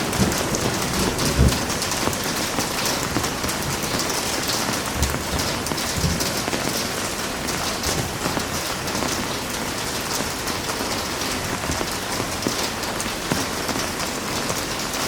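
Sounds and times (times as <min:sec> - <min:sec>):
heavy rain hiss: 0:00.0 - 0:15.0.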